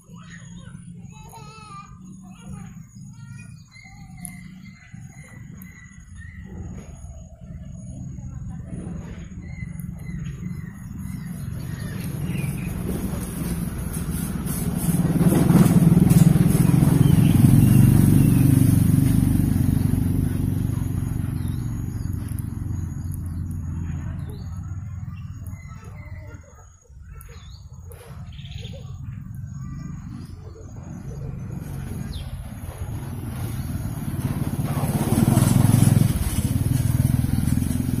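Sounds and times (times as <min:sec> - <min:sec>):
engine passing by: 0:00.0 - 0:38.0.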